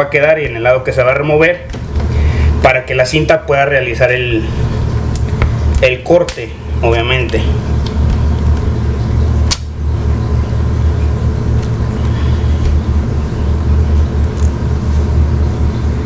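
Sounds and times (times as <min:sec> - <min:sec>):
low machine rumble: 0:00.0 - 0:16.0.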